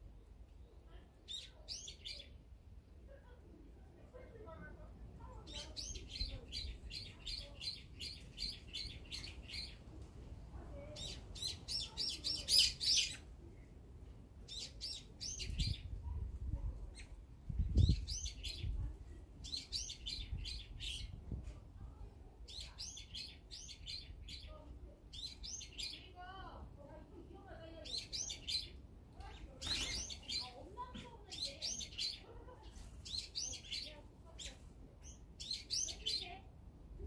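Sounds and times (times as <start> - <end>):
sparrows chirping: 0.0 - 2.5, 5.2 - 10.0, 10.7 - 13.3, 14.4 - 21.4, 22.3 - 26.7, 27.4 - 36.5.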